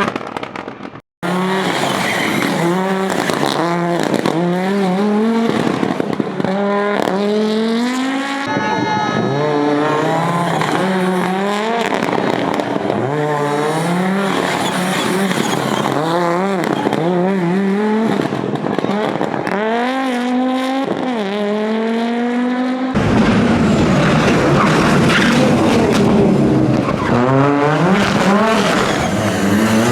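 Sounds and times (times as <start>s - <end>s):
rough deep car noise: 0.0s - 22.2s, 23.0s - 29.9s
rally car engine accelerating: 1.2s - 8.5s, 9.2s - 29.9s.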